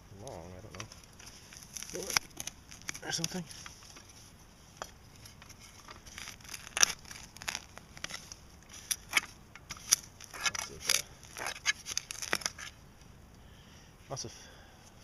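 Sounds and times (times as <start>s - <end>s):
hand digging through loose soil: 0.3s - 12.8s.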